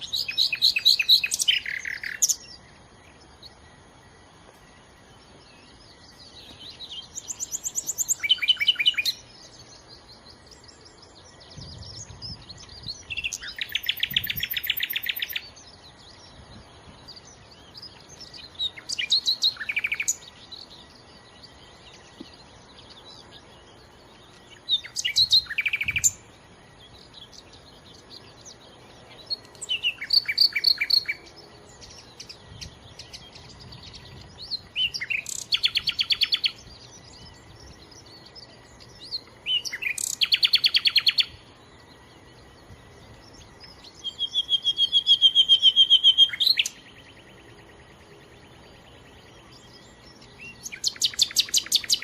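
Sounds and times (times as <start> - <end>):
nightingale singing: 0.0 - 52.0.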